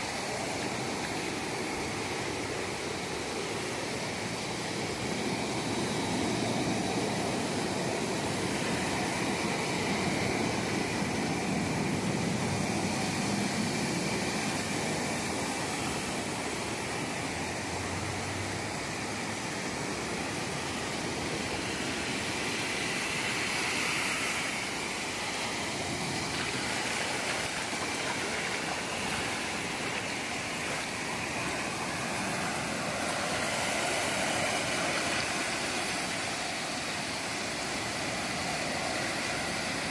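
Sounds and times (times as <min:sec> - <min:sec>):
waves washing up a sandy beach: 0:00.0 - 0:39.9.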